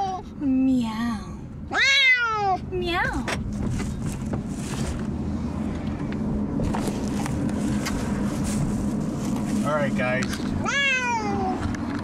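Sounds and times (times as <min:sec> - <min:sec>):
car engine hum from cabin: 0:00.0 - 0:12.0.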